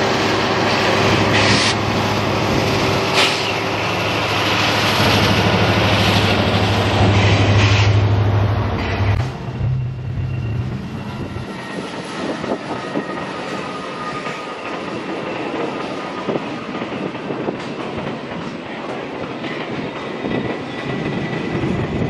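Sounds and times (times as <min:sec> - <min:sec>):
train cars rumbling: 0:00.0 - 0:22.0
wheels clacking on rails: 0:00.0 - 0:22.0.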